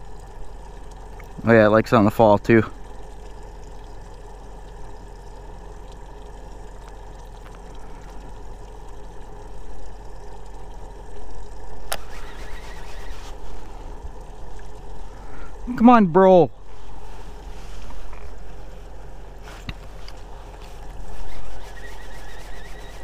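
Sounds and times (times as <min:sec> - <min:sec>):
faint steady hum: 0:00.0 - 0:23.0
outdoor background noise: 0:00.0 - 0:23.0.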